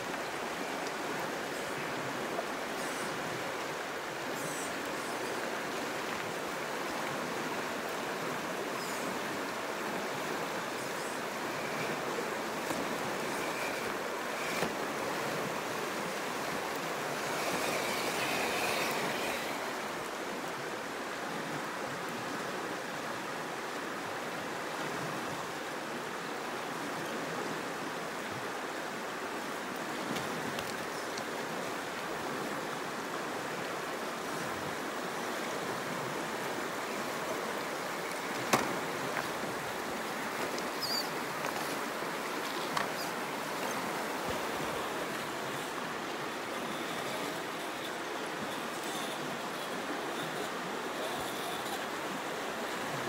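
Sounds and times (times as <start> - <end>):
creek water flowing: 0.0 - 53.0.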